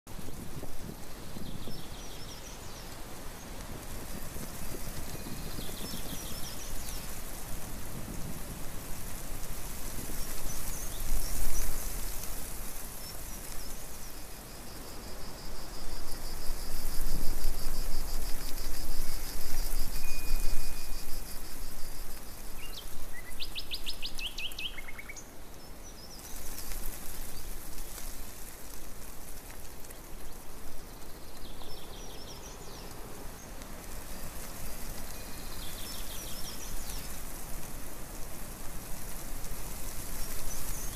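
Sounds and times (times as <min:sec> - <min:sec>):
steady rushing hiss: 0:00.1 - 0:40.9.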